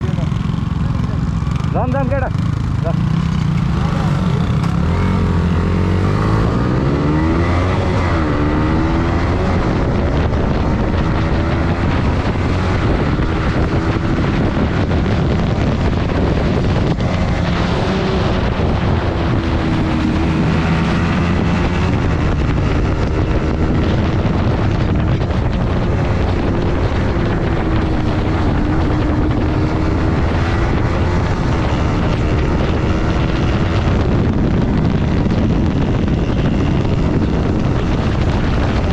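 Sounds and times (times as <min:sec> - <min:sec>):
motorcycle engine accelerating: 0:00.0 - 0:38.9
wind noise: 0:00.0 - 0:38.9.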